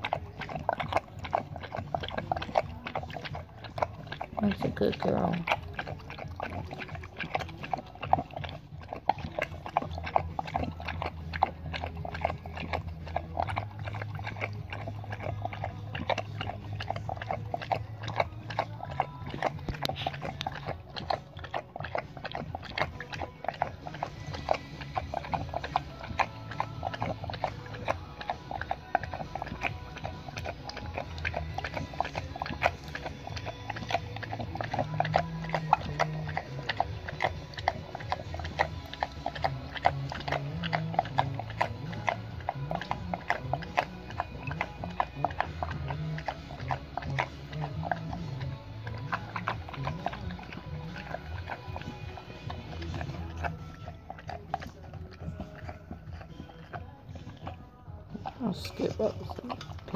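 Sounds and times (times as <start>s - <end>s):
dog lapping in metal bowl: 0.0s - 59.9s.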